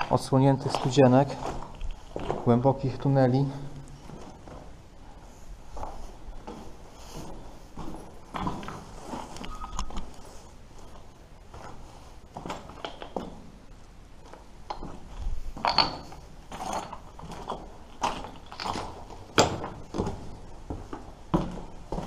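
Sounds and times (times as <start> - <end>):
footsteps walking: 0.0 - 3.1, 3.8 - 22.0.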